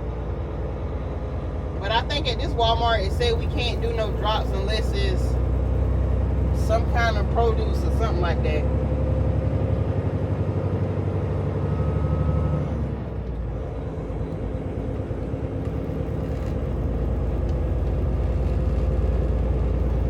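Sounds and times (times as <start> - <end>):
truck diesel engine running: 0.0 - 20.0.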